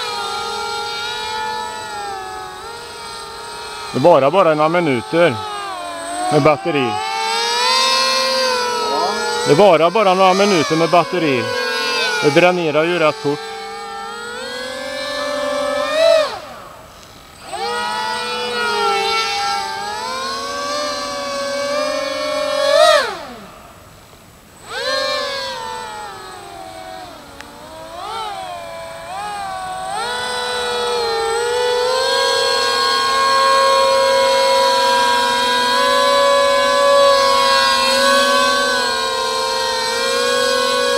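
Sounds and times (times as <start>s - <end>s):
model jet motors wailing: 0.0s - 40.9s.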